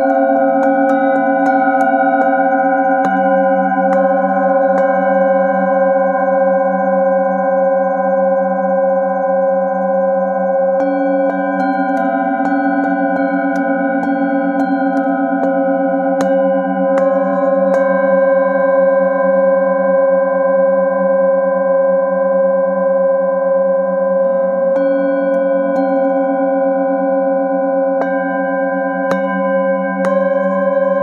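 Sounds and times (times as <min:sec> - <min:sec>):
singing bowls ringing: 0:00.0 - 0:31.0.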